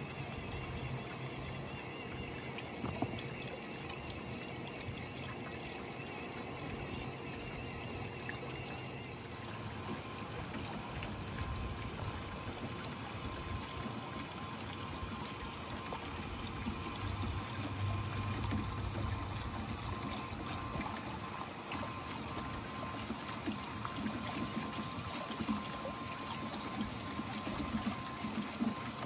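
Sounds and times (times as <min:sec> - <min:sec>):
faint steady tone: 0:00.0 - 0:29.0
water pouring and running: 0:00.0 - 0:29.0.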